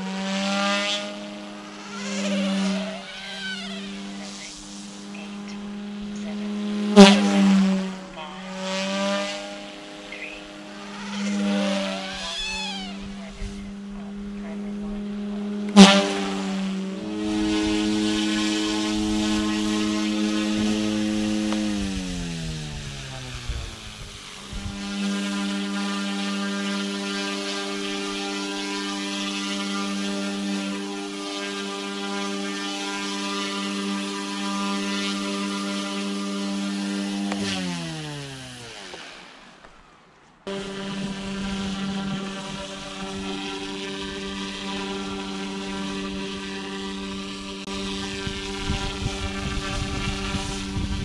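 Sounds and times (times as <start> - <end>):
rc helicopter rotors whining: 0.0 - 51.0.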